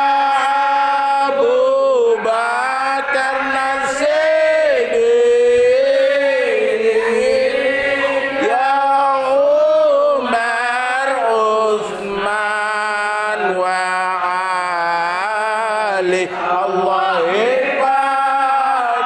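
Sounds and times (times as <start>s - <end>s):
group singing in unison: 0.0s - 19.0s.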